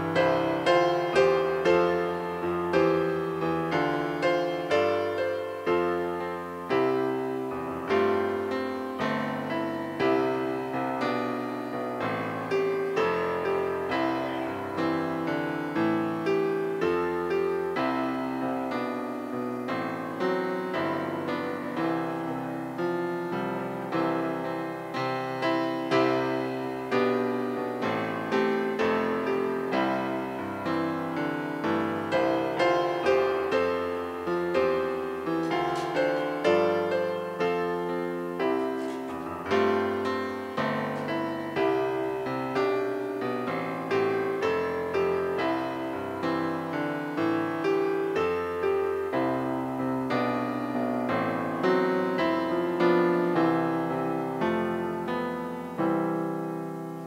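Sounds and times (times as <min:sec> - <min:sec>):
slow gentle piano piece: 0:00.0 - 0:57.0.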